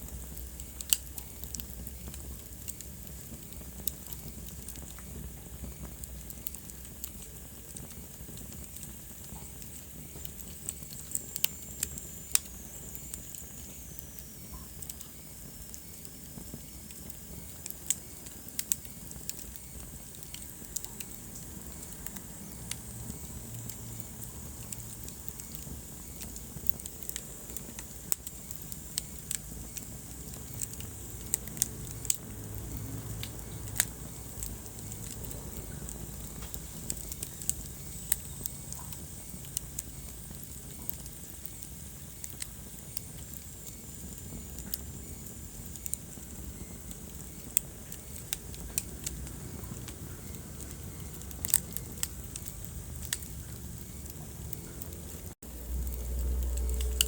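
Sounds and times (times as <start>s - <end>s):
hiss and rumble of flames: 0.0s - 57.0s
wood fire crackling and popping: 0.0s - 57.0s.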